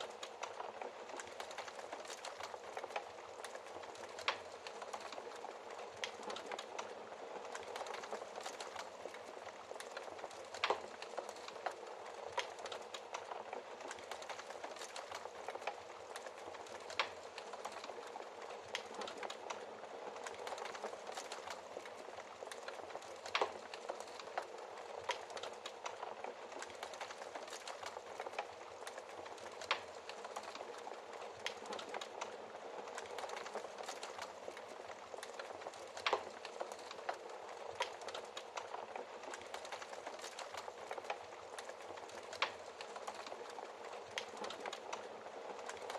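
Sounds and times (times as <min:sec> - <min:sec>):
wood fire crackling: 0:00.0 - 0:45.9
fire popping: 0:00.1 - 0:45.9.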